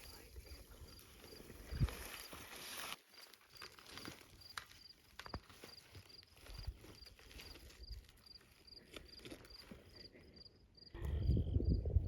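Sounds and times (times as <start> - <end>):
insect chirping: 0.0 - 11.8.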